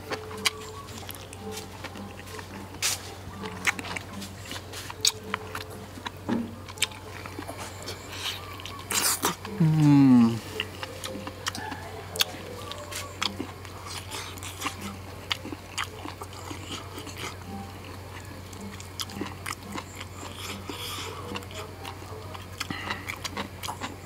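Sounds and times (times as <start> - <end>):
man chewing and biting meat: 0.0 - 24.0
steady low hum: 0.0 - 24.0.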